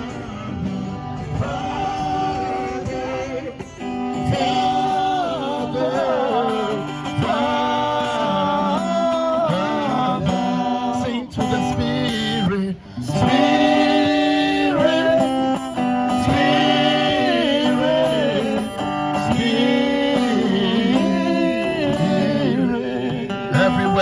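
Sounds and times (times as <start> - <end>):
acoustic guitar: 0.0 - 24.0.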